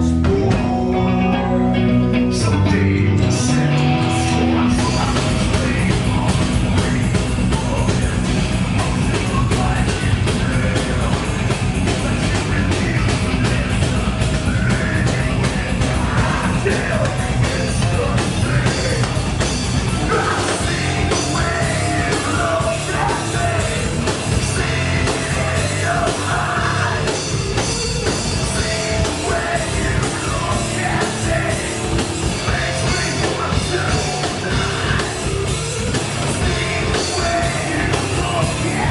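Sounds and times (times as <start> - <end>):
metal band playing live: 0.0 - 38.9
vocals: 0.0 - 38.9.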